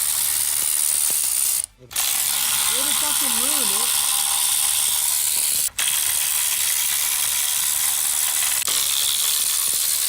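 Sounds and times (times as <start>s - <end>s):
ratchet wrench clicking: 0.0s - 10.0s.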